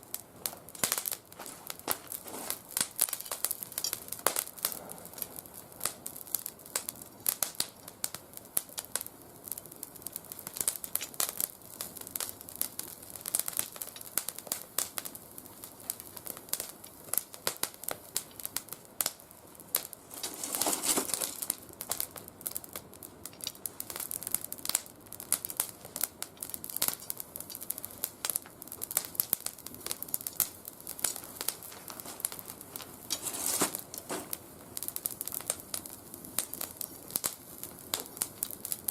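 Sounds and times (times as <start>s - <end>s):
twigs crackling and popping: 0.4s - 38.9s.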